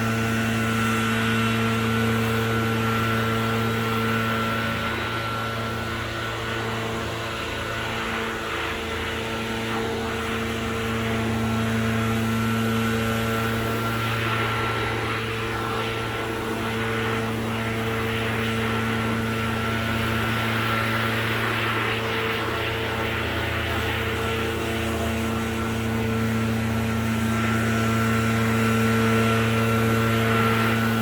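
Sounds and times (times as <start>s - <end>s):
leaf blower engine drone: 0.0s - 31.0s.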